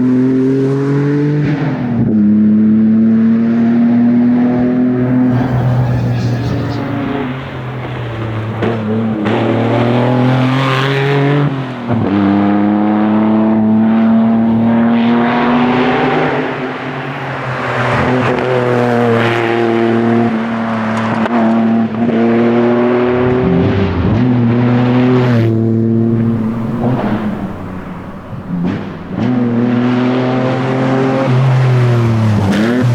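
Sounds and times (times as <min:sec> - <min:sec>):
rally car engine accelerating: 0:00.0 - 0:32.9.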